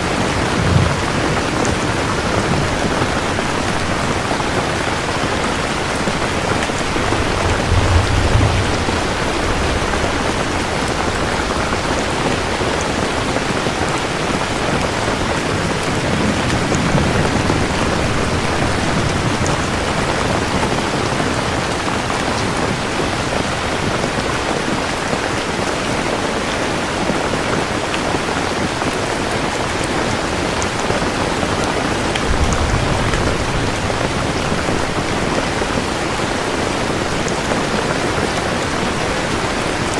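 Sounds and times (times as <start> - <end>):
thunder rumbles: 0.0 - 24.1, 30.6 - 39.9
heavy rainfall: 0.0 - 39.9.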